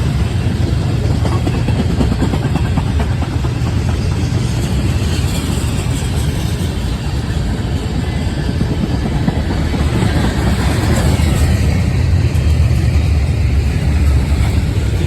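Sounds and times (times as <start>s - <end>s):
steel wheels on track: 0.0s - 15.0s.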